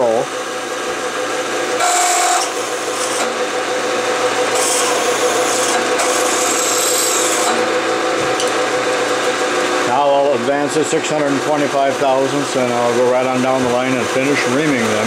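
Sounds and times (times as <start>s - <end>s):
milling machine spindle hum: 0.0s - 15.0s.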